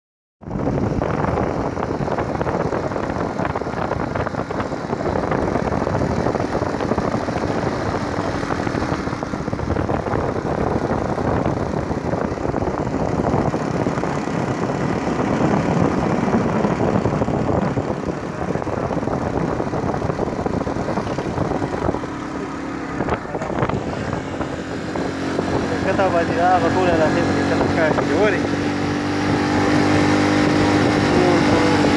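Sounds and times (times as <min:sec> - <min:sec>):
road and wind noise: 0:00.4 - 0:31.9
vehicle engine rumble: 0:00.4 - 0:31.9.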